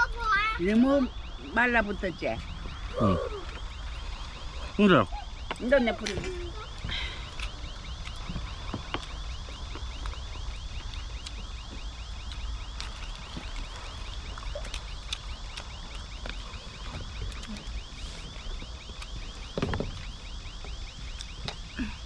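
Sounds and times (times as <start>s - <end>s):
cicada chirping: 0.0s - 22.0s.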